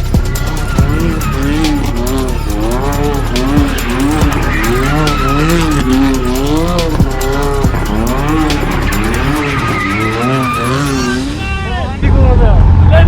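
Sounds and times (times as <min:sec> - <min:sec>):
tyres squealing: 0:00.0 - 0:12.0
car engine revving: 0:00.0 - 0:13.0.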